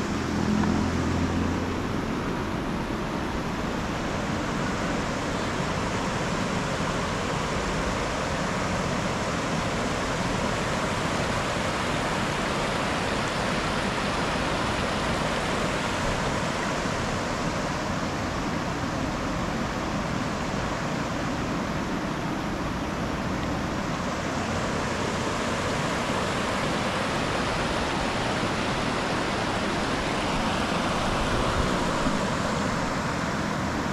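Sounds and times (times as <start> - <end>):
river water over rapids: 0.0 - 33.9.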